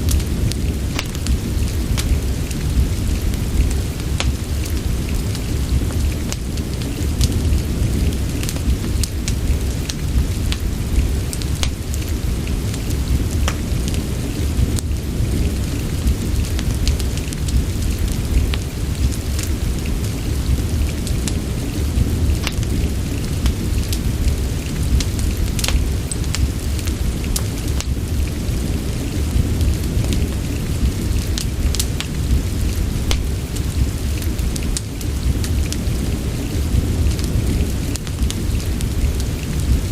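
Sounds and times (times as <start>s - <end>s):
fire crackling and popping: 0.0s - 39.9s
rain hissing: 0.0s - 39.9s.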